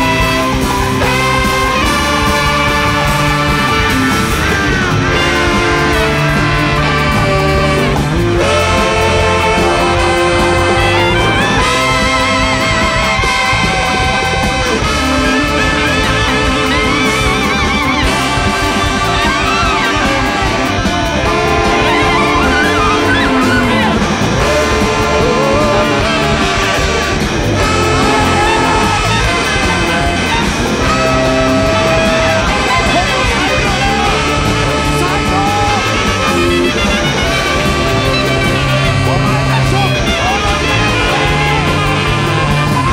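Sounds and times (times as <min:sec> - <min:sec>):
live jazz band playing: 0:00.0 - 0:42.9.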